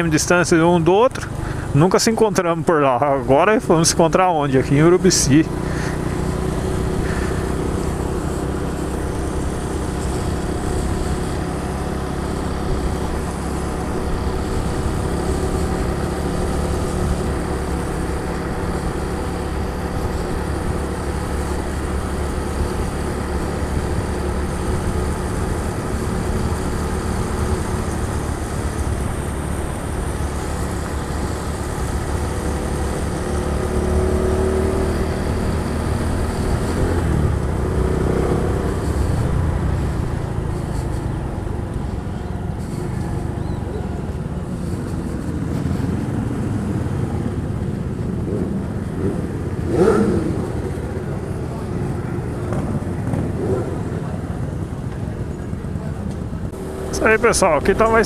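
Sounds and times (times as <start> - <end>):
steady rushing noise: 0.0 - 43.4, 44.1 - 58.0
motorcycle engine running: 2.9 - 58.0.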